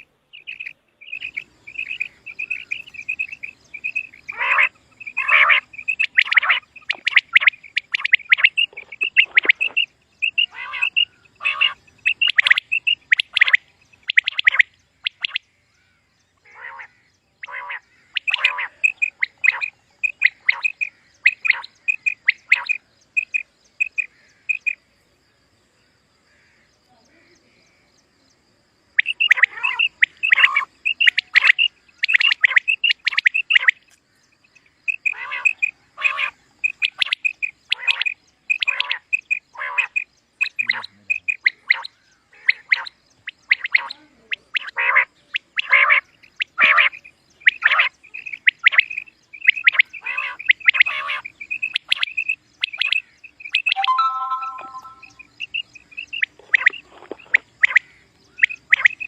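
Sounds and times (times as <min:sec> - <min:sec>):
quail calling: 0:00.0 - 0:15.4, 0:16.5 - 0:24.6, 0:29.0 - 0:33.8, 0:34.9 - 0:44.0, 0:44.6 - 0:55.3.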